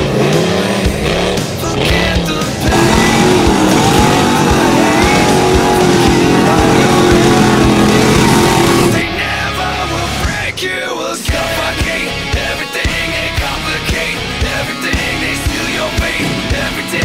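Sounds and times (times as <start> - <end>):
truck engine revving high: 0.0 - 10.3, 13.0 - 17.0.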